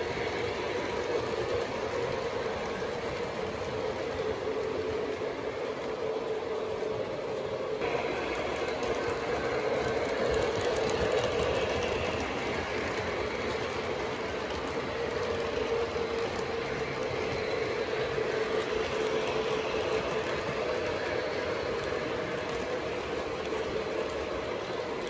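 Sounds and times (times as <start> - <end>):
model train wheels rumbling: 0.0 - 25.0.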